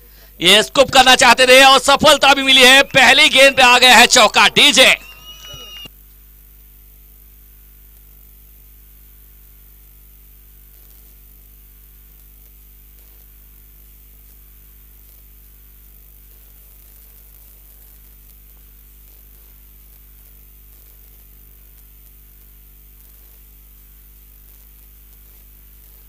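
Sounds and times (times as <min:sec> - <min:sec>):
electrical mains hum: 0:00.0 - 0:26.0
static hiss: 0:00.0 - 0:26.0.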